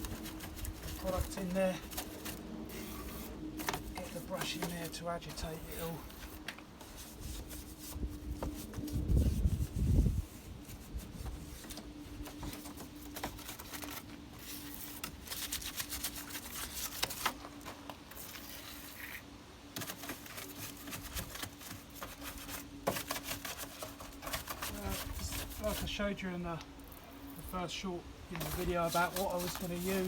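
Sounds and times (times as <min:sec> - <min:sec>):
stiff brush scrubbing: 0:00.0 - 0:17.4, 0:18.1 - 0:19.2, 0:19.8 - 0:30.0.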